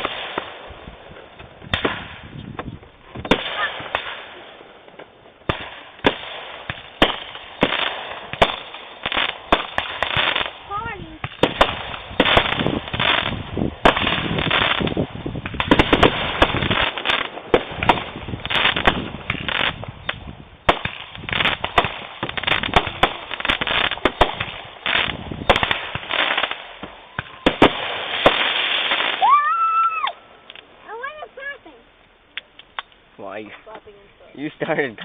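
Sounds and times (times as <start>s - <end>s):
fireworks bangs and crackling: 0.0s - 35.0s.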